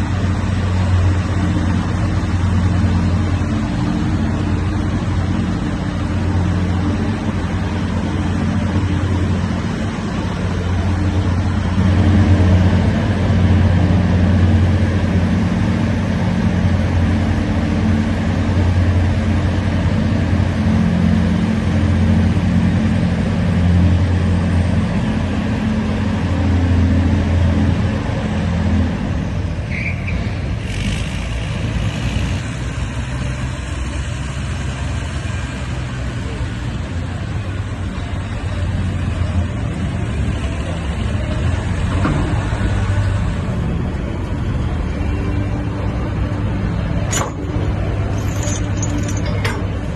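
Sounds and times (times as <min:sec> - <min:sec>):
diesel tractor engine under load: 0:00.0 - 0:49.9.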